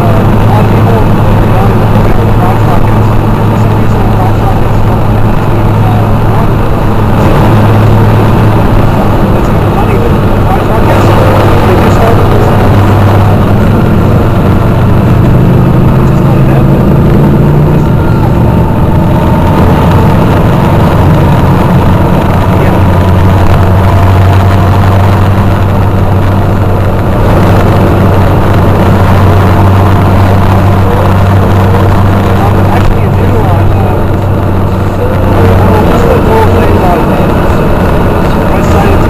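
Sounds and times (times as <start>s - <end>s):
motorcycle engines running: 0.0s - 39.0s.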